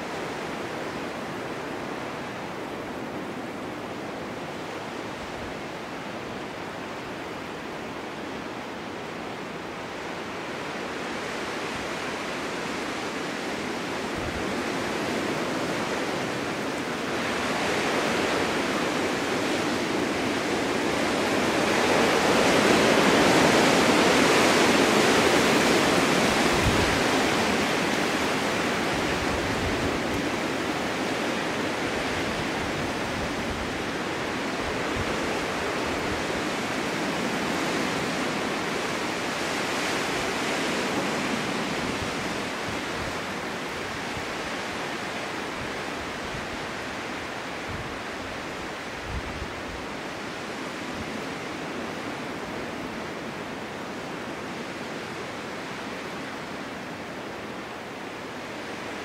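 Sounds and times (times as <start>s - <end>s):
wind blowing in gusts: 0.0s - 59.0s.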